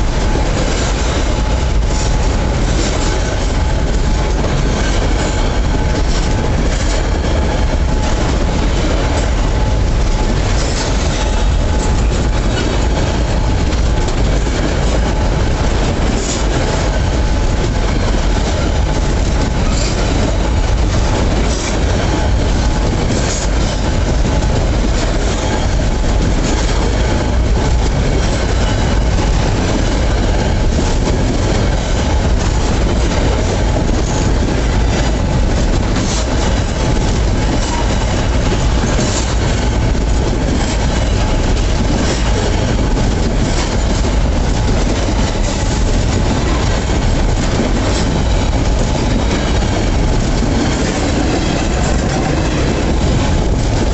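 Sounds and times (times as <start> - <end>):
freight train wagons rolling: 0.0 - 53.9
wheels clicking over rail joints: 0.0 - 53.9.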